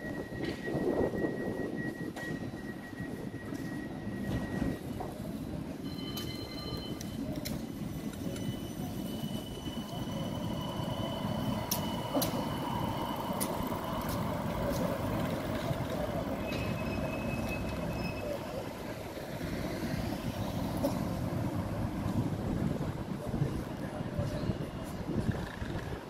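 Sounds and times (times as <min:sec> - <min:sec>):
city traffic noise: 0:00.0 - 0:26.0
tram drive whine: 0:00.0 - 0:26.0.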